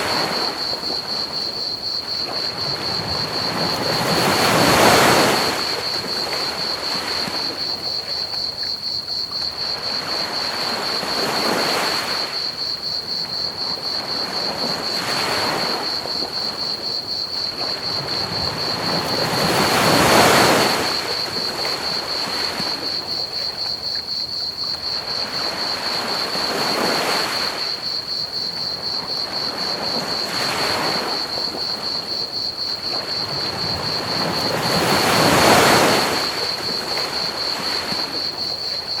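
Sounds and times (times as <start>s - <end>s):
ocean waves breaking: 0.0s - 8.5s, 9.4s - 23.8s, 24.8s - 39.0s
crickets chirping: 0.0s - 39.0s.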